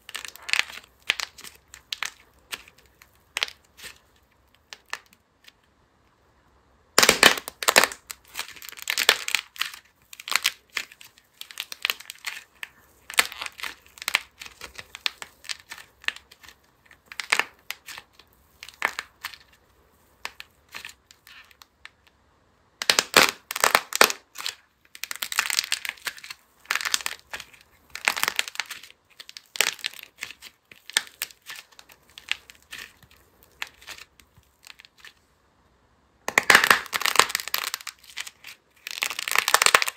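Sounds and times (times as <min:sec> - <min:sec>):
clay squeezed and kneaded: 0:00.0 - 0:39.9.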